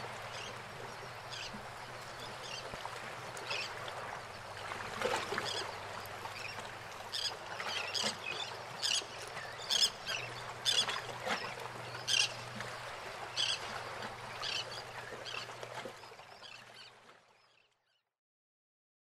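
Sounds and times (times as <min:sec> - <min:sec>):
water sound: 0:00.0 - 0:17.3.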